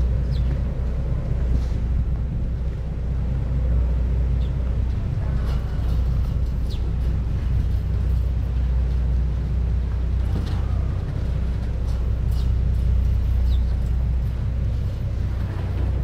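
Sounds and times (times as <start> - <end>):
ship diesel engines rumbling: 0.0 - 16.0.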